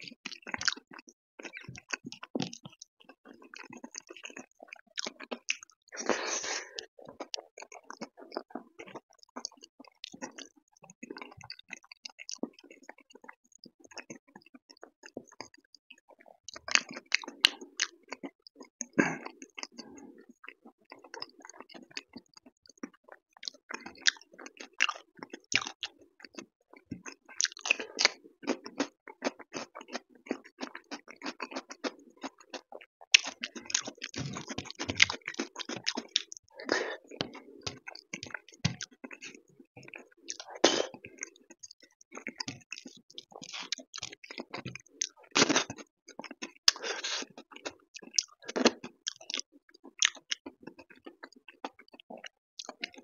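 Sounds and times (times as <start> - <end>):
chewing and wet mouth sounds: 0.0 - 53.0.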